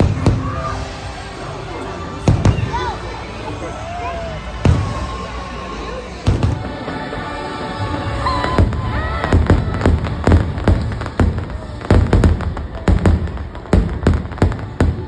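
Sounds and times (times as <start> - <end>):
fireworks bangs: 0.0 - 1.3, 2.1 - 15.0.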